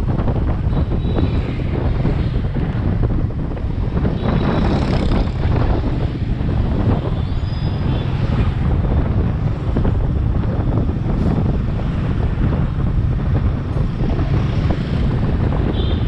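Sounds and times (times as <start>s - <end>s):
street traffic: 0.0s - 16.0s
wind buffeting microphone: 0.0s - 16.0s.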